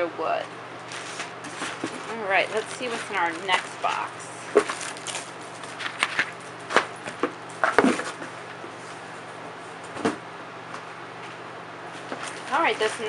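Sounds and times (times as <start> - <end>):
faint steady hum: 0.0 - 13.0
cardboard and plastic packaging rustling: 0.8 - 10.2, 11.2 - 13.0.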